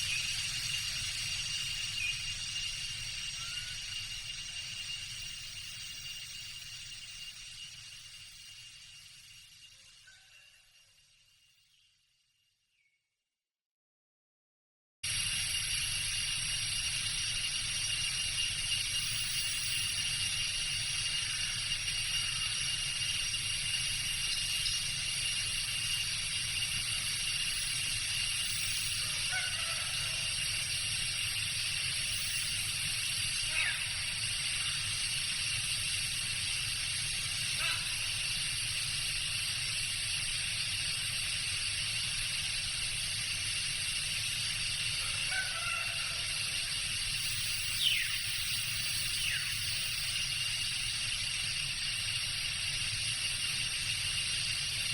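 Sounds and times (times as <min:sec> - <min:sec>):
high-pitched insect drone: 0:00.0 - 0:12.0, 0:15.1 - 0:54.9.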